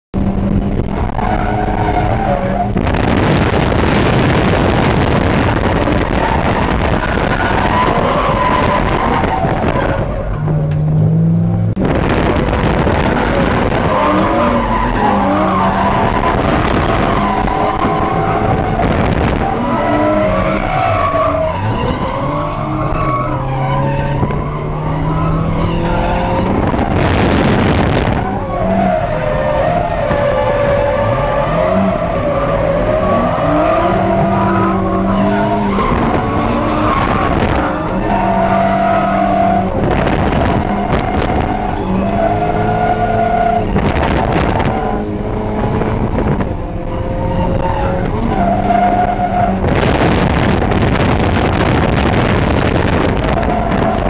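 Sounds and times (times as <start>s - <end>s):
car engine revving hard: 0.2s - 54.0s
tyres skidding: 0.2s - 54.0s.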